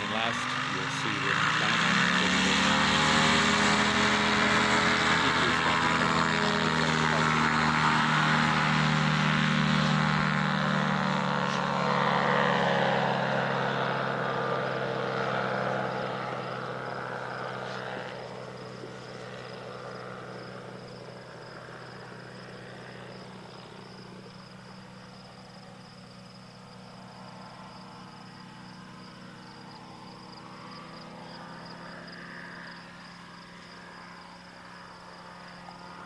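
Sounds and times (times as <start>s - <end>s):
light airplane engine and propeller: 0.0s - 36.0s.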